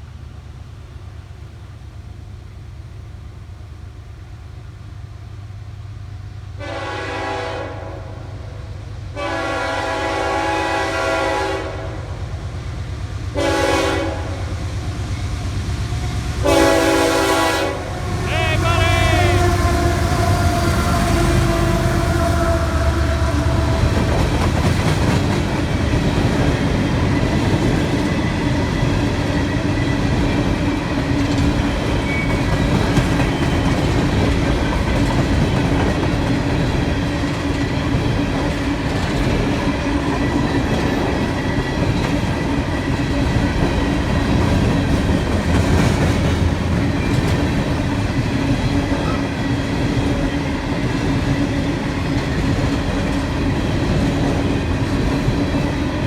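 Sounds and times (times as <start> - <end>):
freight train rumbling past: 0.1 - 56.0.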